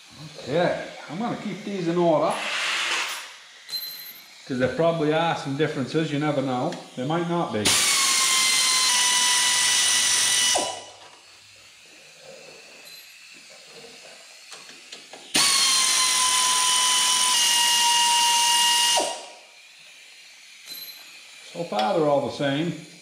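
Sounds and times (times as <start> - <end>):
air ratchet whining: 0.2 - 23.0.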